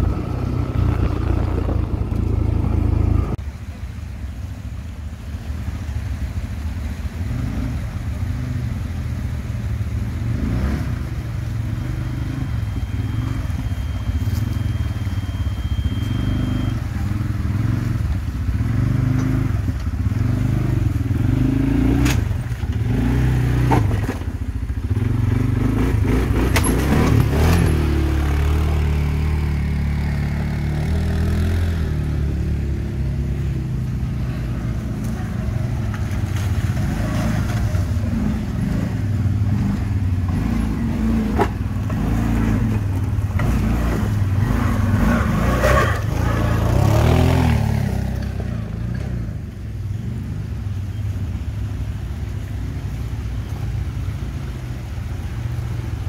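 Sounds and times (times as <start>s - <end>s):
atv engine running: 0.0s - 3.4s, 6.9s - 56.0s.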